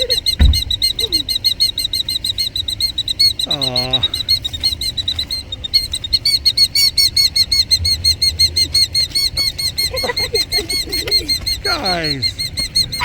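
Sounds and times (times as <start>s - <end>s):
killdeer shrill alarm calls: 0.0s - 13.0s.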